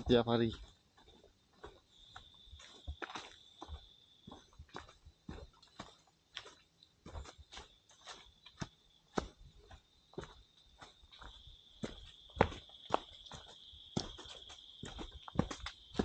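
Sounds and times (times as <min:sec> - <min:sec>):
footsteps on dirt trail: 0:00.0 - 0:16.0.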